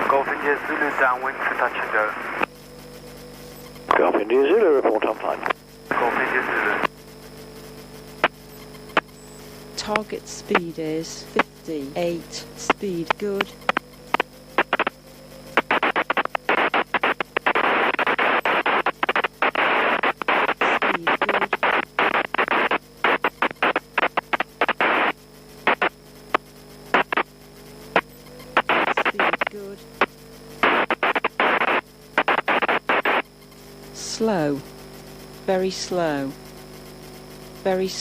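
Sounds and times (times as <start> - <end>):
intercom static hiss: 0.0 - 38.0
steady low hum: 0.0 - 38.0.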